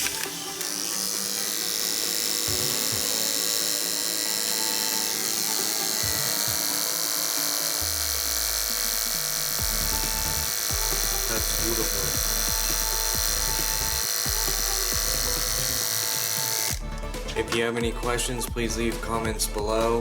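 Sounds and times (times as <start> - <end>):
electric hair clipper running: 0.0 - 17.3.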